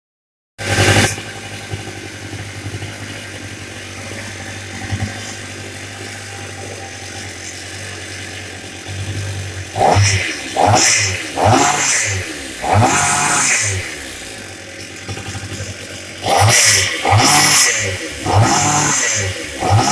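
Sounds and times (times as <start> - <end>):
chainsaw engine idling and revving: 0.6 - 19.9.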